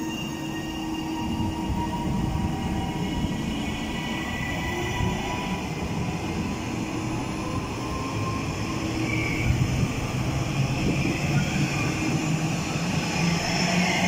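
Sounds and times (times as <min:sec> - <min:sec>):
train wheels rumbling on rail: 0:00.3 - 0:14.0.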